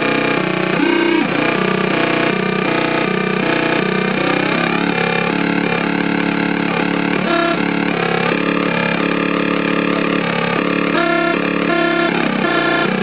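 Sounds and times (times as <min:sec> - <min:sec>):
buzzy synthesizer tone: 0:00.0 - 0:13.0.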